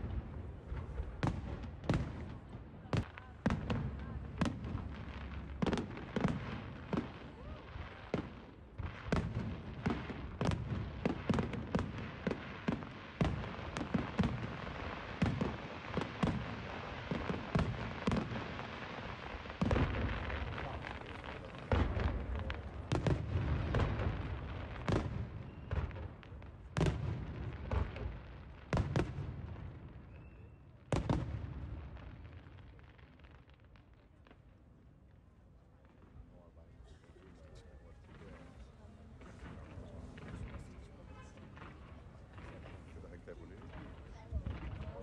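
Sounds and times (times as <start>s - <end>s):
fireworks booms with rumbling tail: 0.0s - 34.6s, 38.0s - 45.0s
fireworks bursting and crackling: 0.0s - 45.0s.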